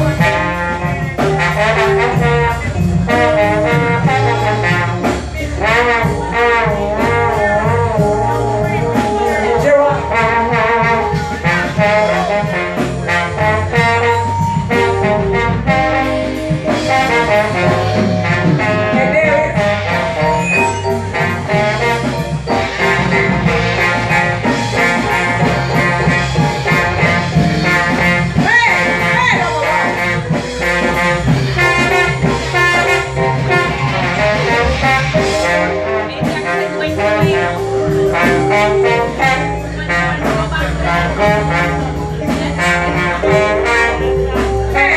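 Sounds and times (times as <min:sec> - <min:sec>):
live jazz band playing: 0:00.0 - 0:44.9.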